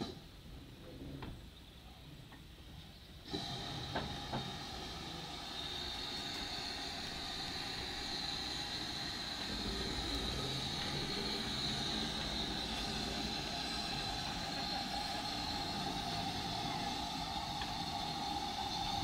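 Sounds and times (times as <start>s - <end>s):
steam locomotive rumbling: 0.0s - 1.2s, 3.2s - 19.0s
steam hissing: 3.2s - 19.0s.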